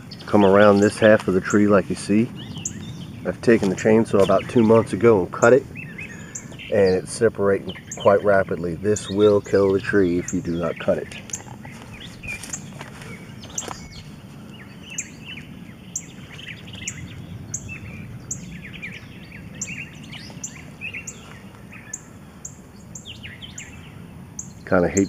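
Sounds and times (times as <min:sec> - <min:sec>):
birds chirping quietly: 0:00.0 - 0:25.0
low outdoor background: 0:00.0 - 0:25.0.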